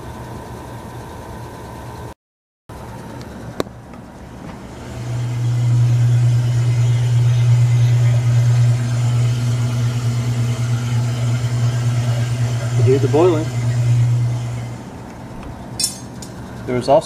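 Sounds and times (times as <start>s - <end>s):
refrigerator compressor hum: 0.0s - 2.1s, 2.7s - 17.0s.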